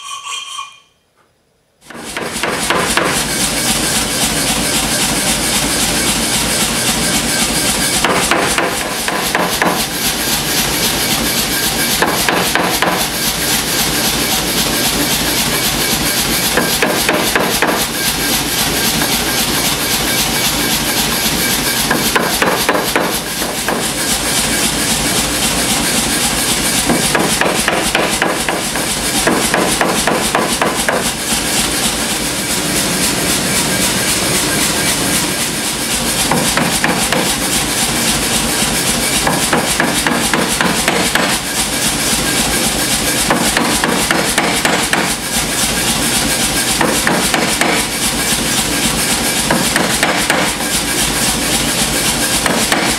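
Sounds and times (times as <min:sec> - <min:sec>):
power hammer striking steel: 0:01.8 - 0:52.9.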